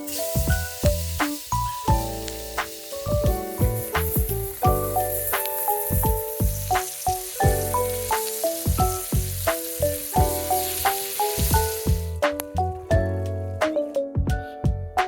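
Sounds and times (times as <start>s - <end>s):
steak sizzling: 0.0s - 12.8s
calm piano music: 0.0s - 15.0s.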